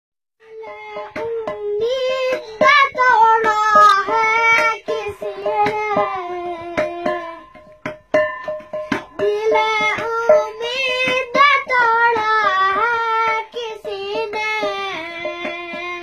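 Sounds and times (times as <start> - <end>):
boy singing long notes: 0.4 - 7.6, 8.9 - 16.0
hand drumming on metal pot: 0.4 - 16.0.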